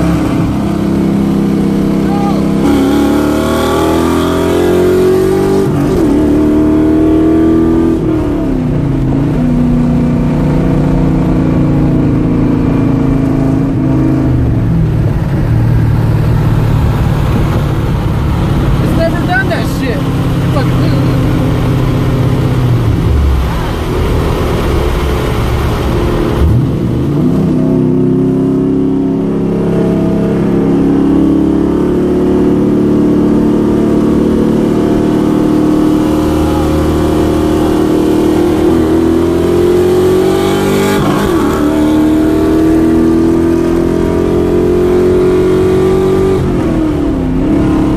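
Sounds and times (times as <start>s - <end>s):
car engine accelerating hard: 0.0s - 47.9s.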